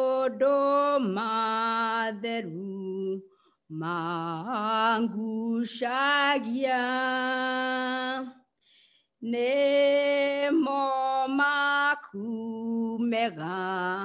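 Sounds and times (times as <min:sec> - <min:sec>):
woman singing unaccompanied hymn: 0:00.0 - 0:08.4, 0:09.2 - 0:14.0.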